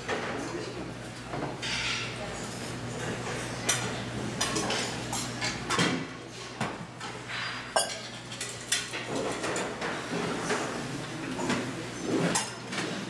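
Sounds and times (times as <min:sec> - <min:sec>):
utensils and plates clinking on steel: 0:00.0 - 0:13.0.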